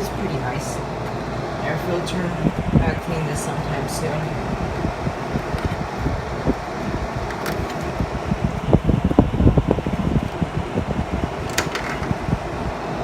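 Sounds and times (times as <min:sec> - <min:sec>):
air conditioner fan humming: 0:00.0 - 0:13.0
low rumbling surges: 0:00.0 - 0:13.0.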